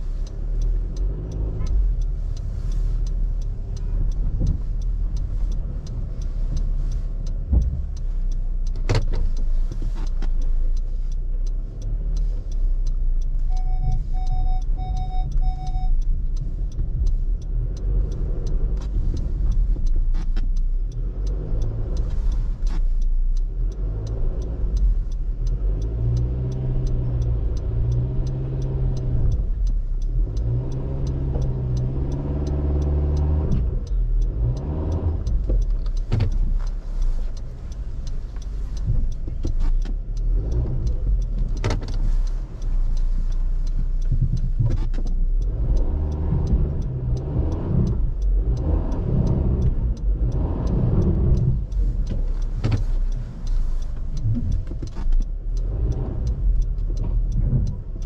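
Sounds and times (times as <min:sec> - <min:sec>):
car engine accelerating: 0:00.0 - 0:58.0
road noise: 0:00.0 - 0:58.0.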